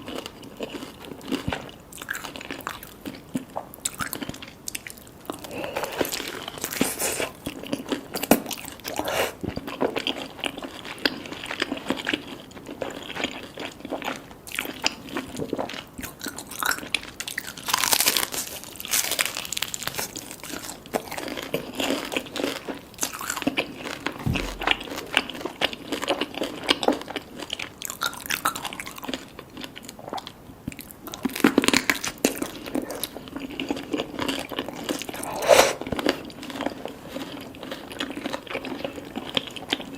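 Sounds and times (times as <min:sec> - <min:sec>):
chewing: 0:00.0 - 0:25.1, 0:25.9 - 0:39.9.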